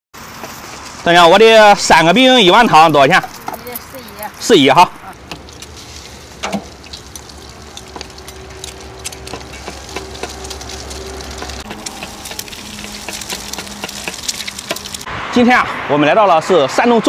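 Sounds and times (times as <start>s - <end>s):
oil sizzling and popping: 0.2s - 15.1s.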